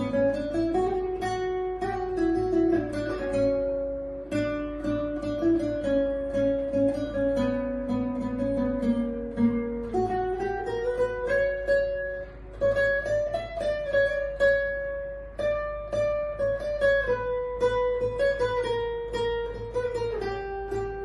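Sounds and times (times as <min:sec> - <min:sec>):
classical guitar playing solo: 0:00.0 - 0:21.0.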